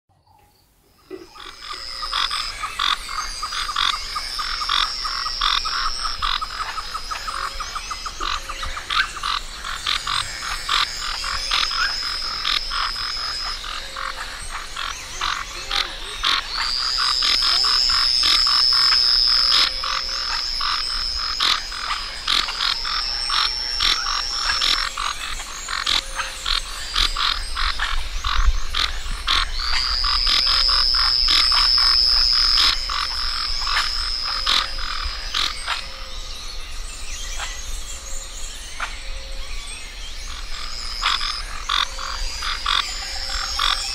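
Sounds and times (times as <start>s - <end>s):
frogs calling in a chorus: 0.3s - 43.9s
high steady tone: 1.1s - 36.6s.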